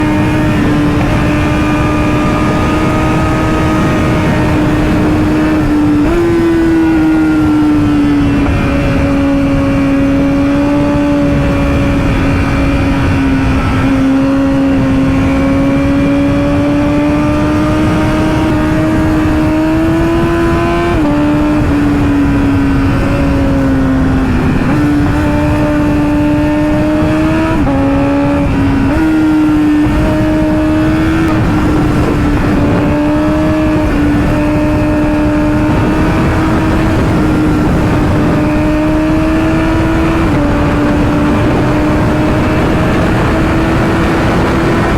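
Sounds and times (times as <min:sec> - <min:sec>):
sport bike engine running hard: 0:00.0 - 0:44.9
wind rushing: 0:00.0 - 0:44.9.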